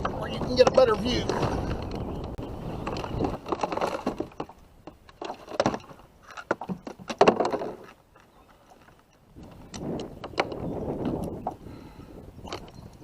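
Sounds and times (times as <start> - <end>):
gear knocking and rattling in kayak: 0.0 - 13.0.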